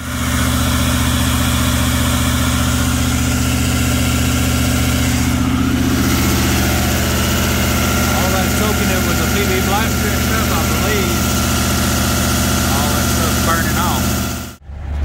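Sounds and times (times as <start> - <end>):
air compressor running: 0.0 - 14.6
diesel truck engine idling: 0.0 - 14.6.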